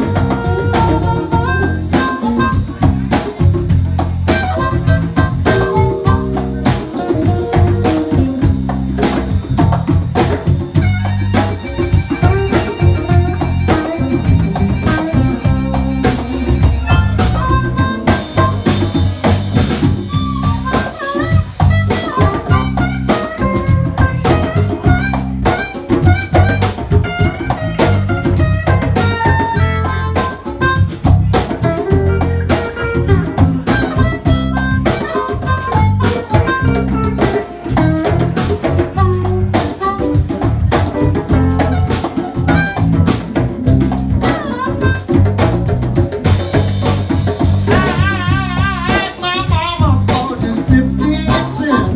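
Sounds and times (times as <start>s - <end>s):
drum kit steady beat: 0.0s - 51.9s
electric guitar: 0.0s - 51.9s
harmonica bending notes: 0.0s - 51.9s.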